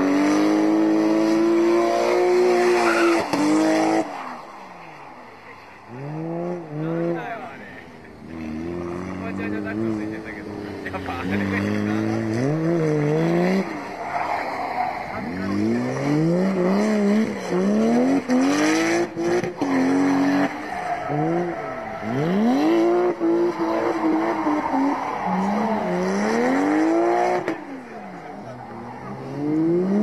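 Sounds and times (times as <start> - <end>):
car engine revving: 0.0 - 30.0
tyres squealing and skidding: 0.0 - 30.0.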